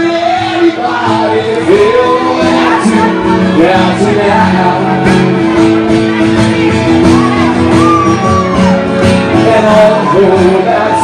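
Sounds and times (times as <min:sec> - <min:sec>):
acoustic guitar: 0:00.0 - 0:11.0
man singing: 0:00.0 - 0:11.0.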